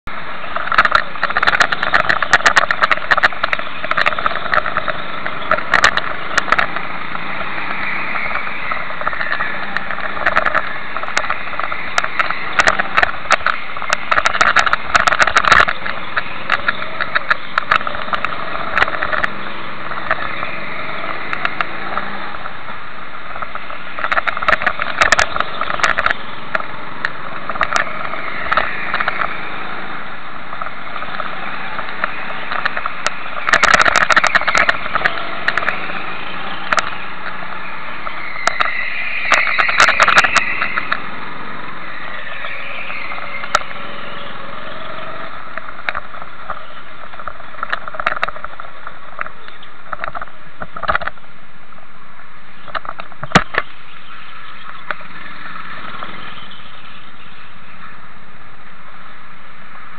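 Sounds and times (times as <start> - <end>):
go-kart engines running: 0.0 - 59.9
camera and kart chassis rattles: 0.1 - 51.2, 52.6 - 57.5.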